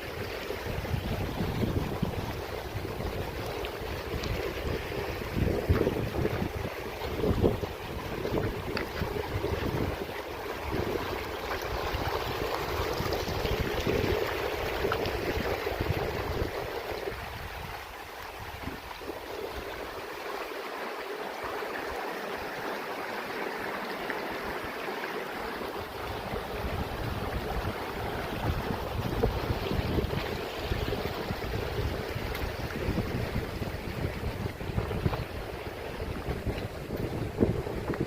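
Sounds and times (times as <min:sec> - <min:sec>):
wind buffeting microphone: 0:00.0 - 0:20.0, 0:25.6 - 0:38.0
stream water running: 0:00.0 - 0:38.0.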